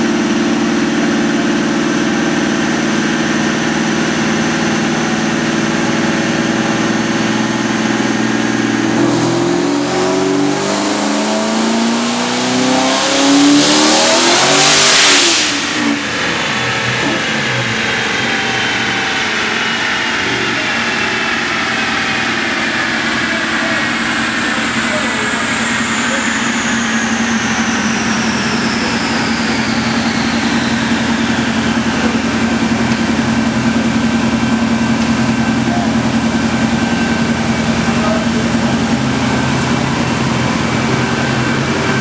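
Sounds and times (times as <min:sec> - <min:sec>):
car engine revving on dyno: 0:00.0 - 0:42.0.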